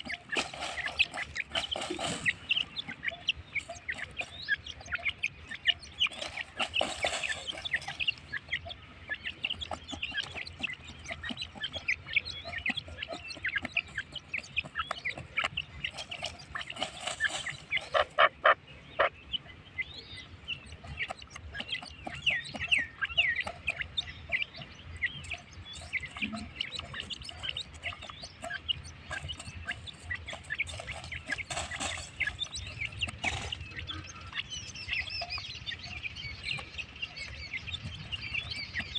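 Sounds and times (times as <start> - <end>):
birds chirping and clucking: 0.0 - 38.9.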